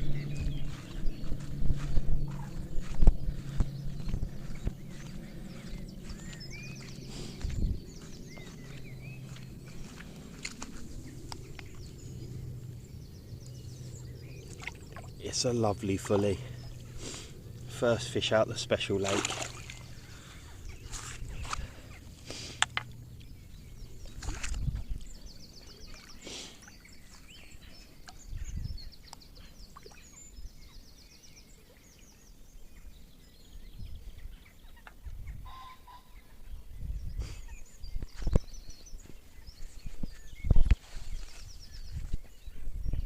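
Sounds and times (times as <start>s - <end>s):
birds singing in rapid trills: 0.0s - 43.0s.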